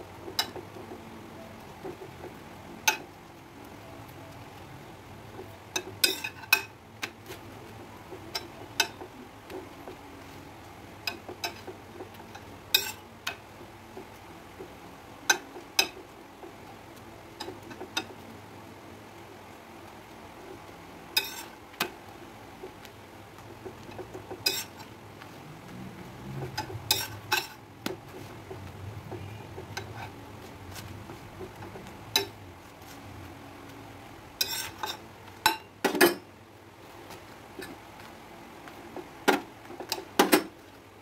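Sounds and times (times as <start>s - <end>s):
spatula scraping and tapping griddle: 0.1s - 1.1s, 1.7s - 3.2s, 5.3s - 10.4s, 11.0s - 18.4s, 20.0s - 33.8s, 34.4s - 40.7s.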